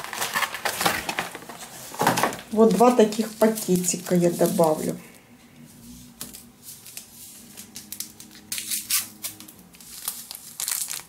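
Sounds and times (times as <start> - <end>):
paper sachets crinkling: 0.0 - 5.2, 6.2 - 11.0.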